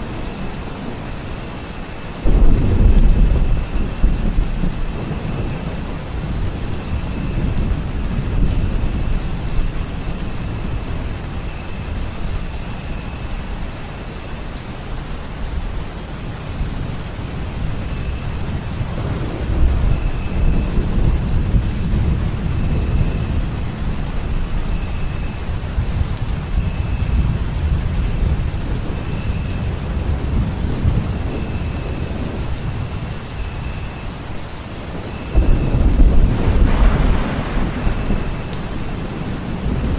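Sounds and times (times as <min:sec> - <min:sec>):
steady rain: 0:00.0 - 0:39.9
rolling thunder rumbling: 0:02.2 - 0:13.8, 0:16.4 - 0:33.7, 0:34.8 - 0:39.9.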